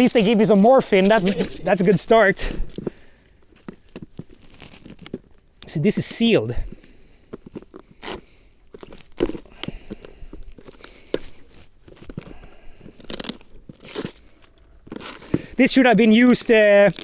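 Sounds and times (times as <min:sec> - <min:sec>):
packaging crackling and tearing: 0:00.0 - 0:05.6, 0:06.7 - 0:17.0.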